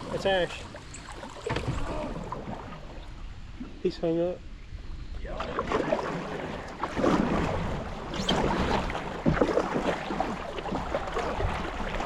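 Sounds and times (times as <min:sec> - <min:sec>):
river water splashing and rushing: 0:00.0 - 0:03.3, 0:05.3 - 0:12.0.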